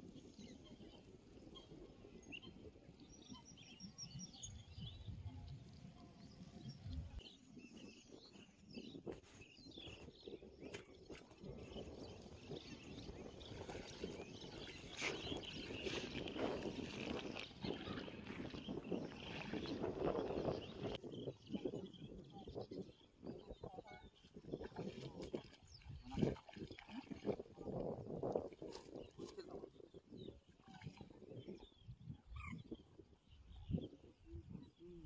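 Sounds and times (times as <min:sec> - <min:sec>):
small birds chirping: 0:00.3 - 0:35.0.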